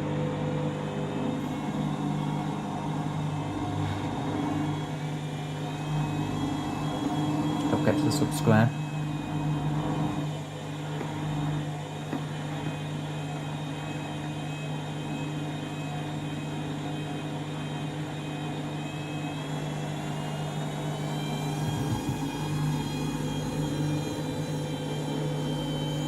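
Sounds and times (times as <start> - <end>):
washing machine drum motor humming: 0.0 - 26.0.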